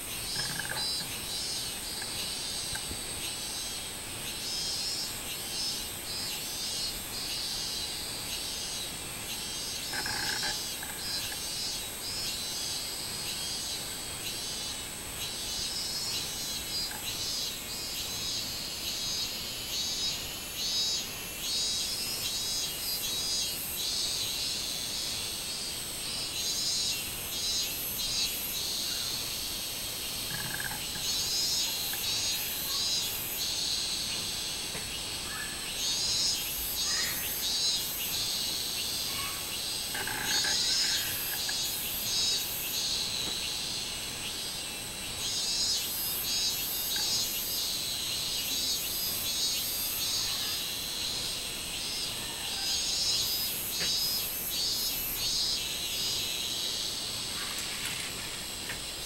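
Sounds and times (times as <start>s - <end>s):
cicadas singing: 0.0s - 59.0s.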